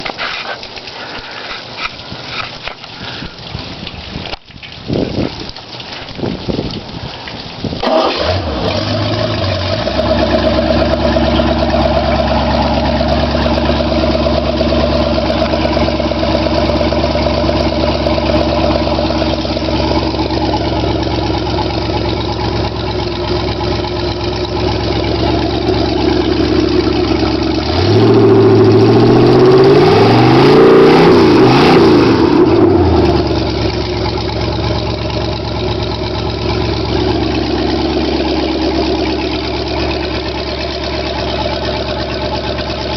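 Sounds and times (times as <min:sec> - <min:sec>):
boat engine idling and revving: 0:07.8 - 0:42.9.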